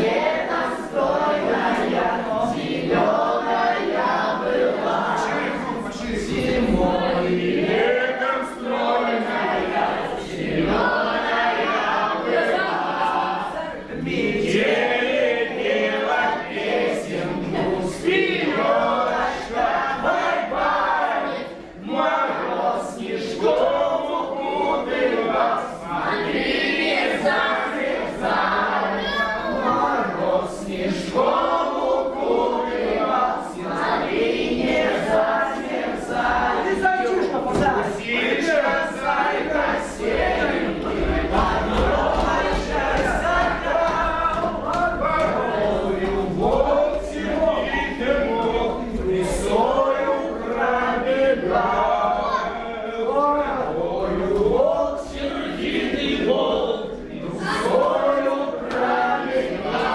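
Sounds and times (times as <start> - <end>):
children and adults singing: 0.0 - 59.9.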